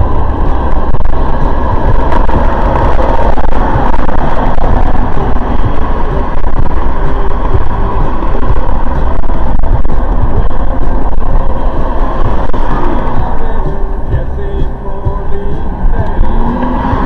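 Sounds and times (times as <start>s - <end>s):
vehicle road and engine noise: 0.0s - 17.0s.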